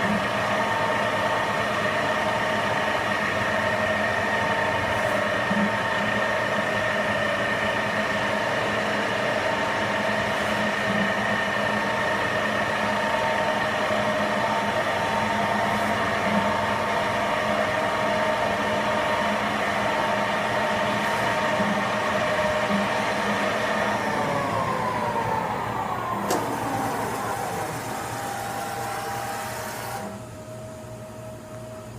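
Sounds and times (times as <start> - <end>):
lathe spindle whine: 0.0 - 31.9.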